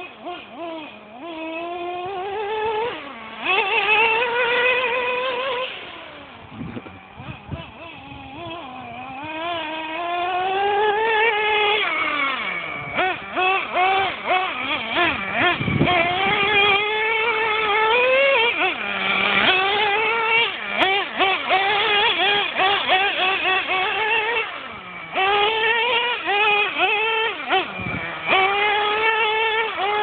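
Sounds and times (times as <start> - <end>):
model truck engine revving: 0.0 - 30.0.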